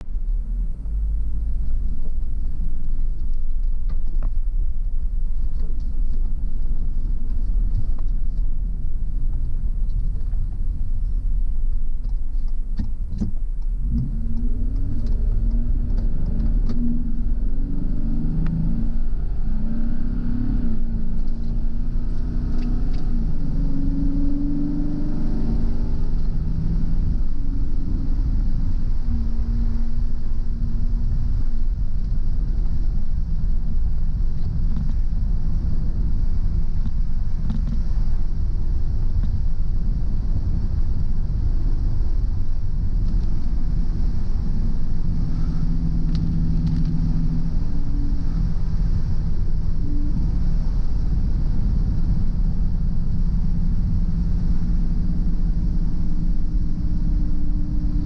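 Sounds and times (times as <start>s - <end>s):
car engine accelerating: 0.0s - 58.0s
low road rumble: 0.0s - 58.0s.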